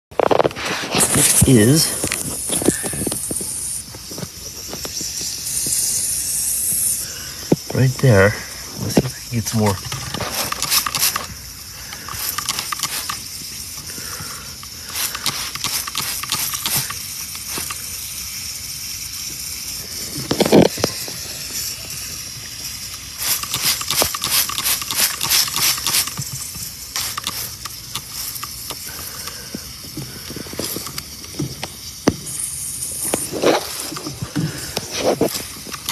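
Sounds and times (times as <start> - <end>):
refrigerant hissing from leak: 0.2 - 35.9.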